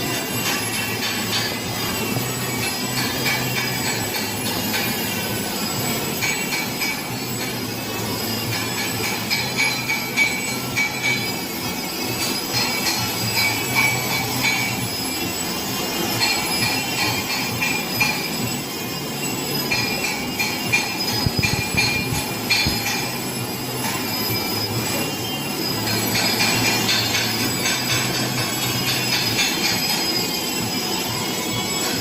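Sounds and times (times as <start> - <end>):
welding arc hissing and buzzing: 0.0 - 32.0.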